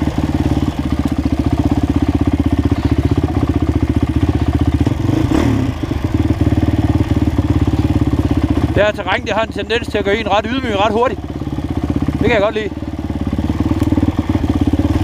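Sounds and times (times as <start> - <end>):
dirt bike engine at low revs: 0.0 - 15.0.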